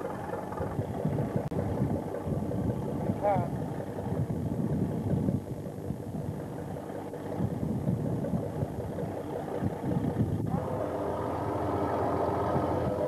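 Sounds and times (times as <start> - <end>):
uneven low rumble: 0.0 - 11.2
boat engine running: 0.0 - 13.0.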